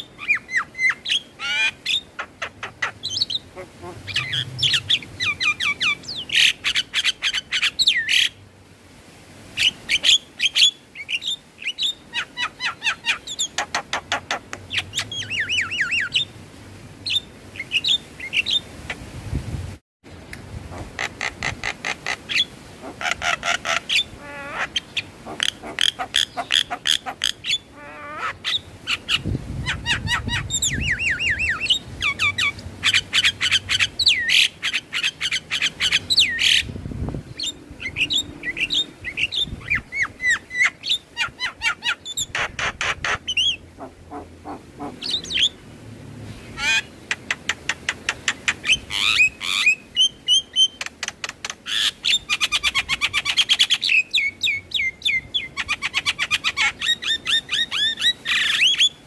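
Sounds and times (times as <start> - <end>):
myna bird song: 0.0 - 8.4, 9.6 - 16.4, 21.0 - 45.6, 46.3 - 59.0.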